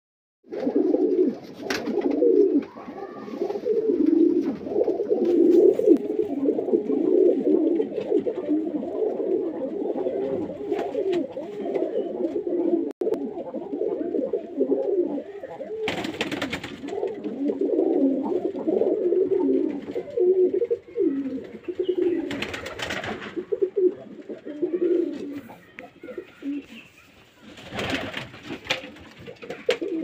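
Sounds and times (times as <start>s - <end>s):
pigeons cooing: 0.5s - 30.0s.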